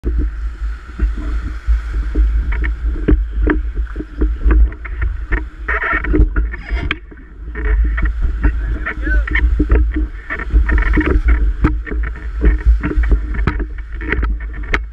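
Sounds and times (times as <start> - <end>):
rapids deep rumble: 0.0 - 14.9.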